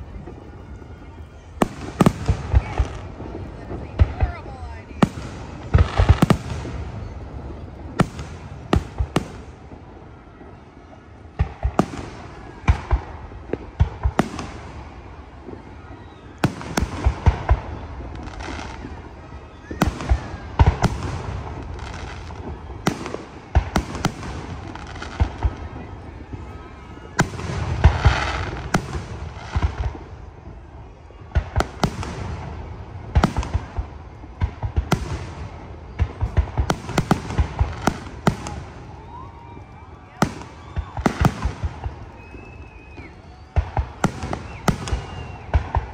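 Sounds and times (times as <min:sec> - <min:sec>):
fireworks bursting: 0:00.0 - 0:45.9.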